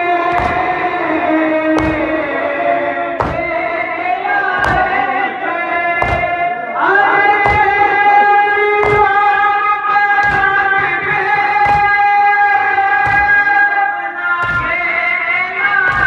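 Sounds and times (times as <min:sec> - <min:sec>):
crowd striking chests: 0:00.0 - 0:16.0
person singing a lament: 0:00.0 - 0:16.0.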